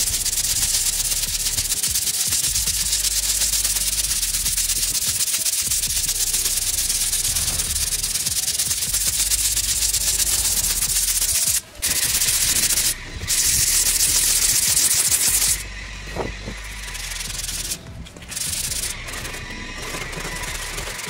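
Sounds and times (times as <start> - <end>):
hand sanding rasp: 0.0 - 21.0.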